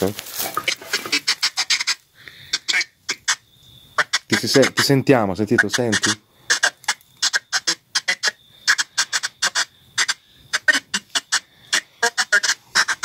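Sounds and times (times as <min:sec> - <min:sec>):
radio static bursts: 0:00.0 - 0:13.0.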